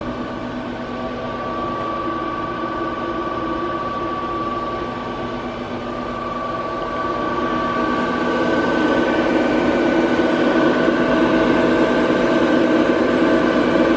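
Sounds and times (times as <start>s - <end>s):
lathe running with high whine: 0.0s - 13.9s.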